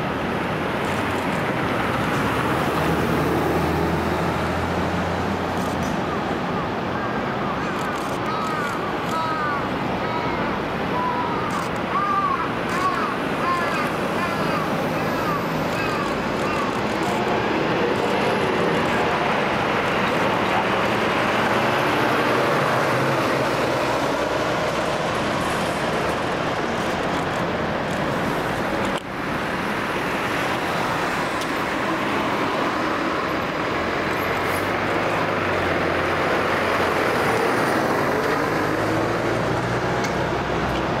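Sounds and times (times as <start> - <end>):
fire engines driving past: 0.0 - 41.0.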